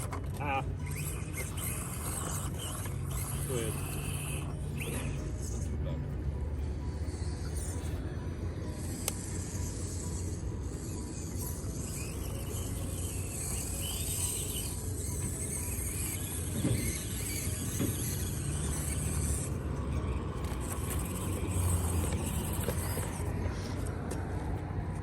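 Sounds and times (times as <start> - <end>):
toy car motor whirring: 0.0 - 25.0.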